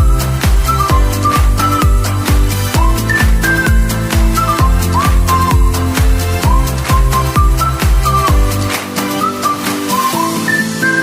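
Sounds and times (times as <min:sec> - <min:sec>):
kick drum beat: 0:00.0 - 0:09.1
upbeat electronic music: 0:00.0 - 0:11.0.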